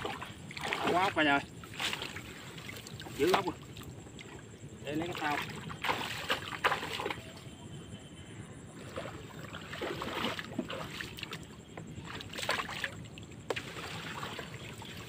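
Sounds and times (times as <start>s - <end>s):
person wading through water: 0.0s - 7.6s, 8.7s - 15.0s.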